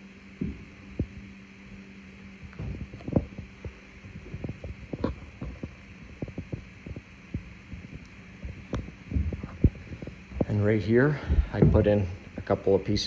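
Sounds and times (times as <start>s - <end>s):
soft low thumps: 0.0s - 13.0s
steady low hum: 0.0s - 13.0s.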